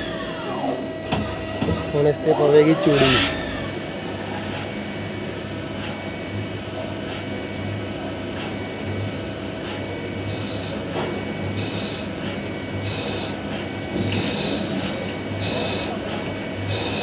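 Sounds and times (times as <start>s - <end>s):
lathe spindle hum: 0.0s - 17.0s.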